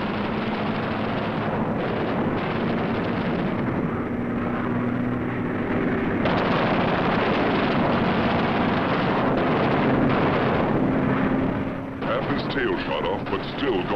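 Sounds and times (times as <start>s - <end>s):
propeller aircraft engines droning: 0.0s - 13.9s.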